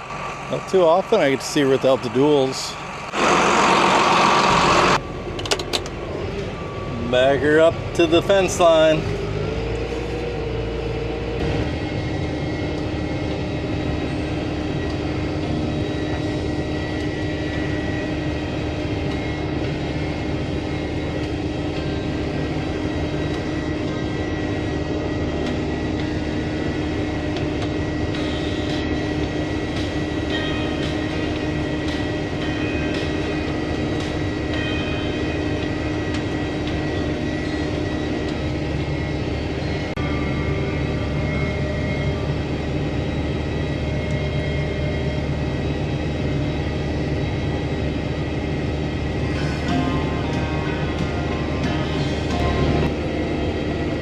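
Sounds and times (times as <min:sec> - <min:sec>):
sprayer engine droning with whine: 0:00.0 - 0:54.0.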